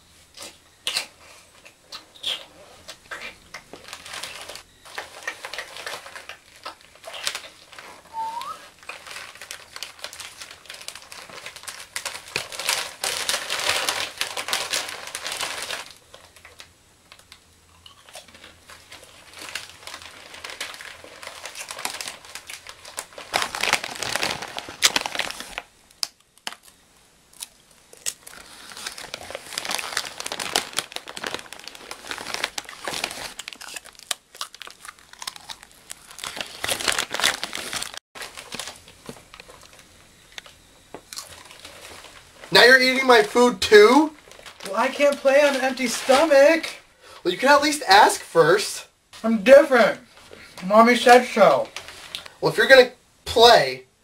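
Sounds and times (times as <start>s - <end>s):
plastic chip bag crackling: 3.1s - 53.6s.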